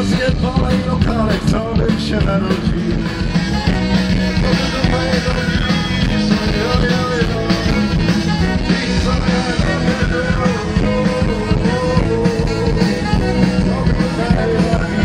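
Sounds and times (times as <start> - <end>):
live band through stage speakers: 0.0 - 15.0.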